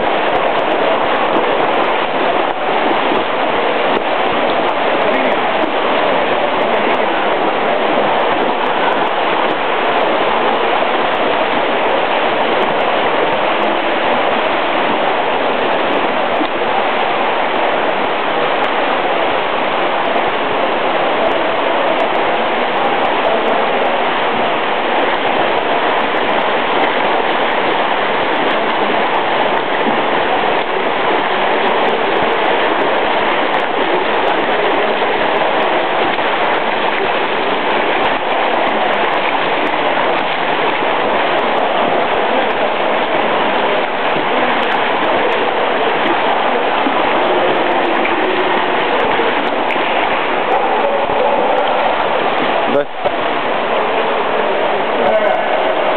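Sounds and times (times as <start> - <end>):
indoor pool hall rushing noise: 0.0 - 55.9.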